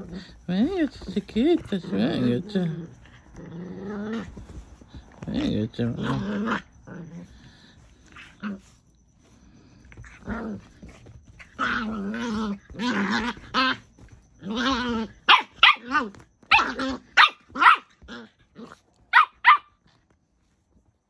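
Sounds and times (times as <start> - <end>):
dogs growling: 0.0 - 8.8, 9.4 - 17.2, 18.0 - 19.0
dogs barking and snarling: 0.0 - 19.9.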